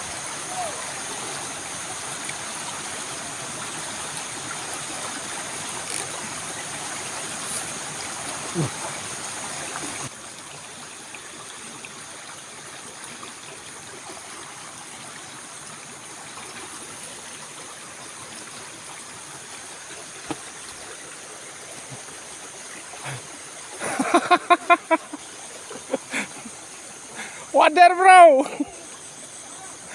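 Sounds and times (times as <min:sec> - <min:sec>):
stream water flowing: 0:00.0 - 0:29.9.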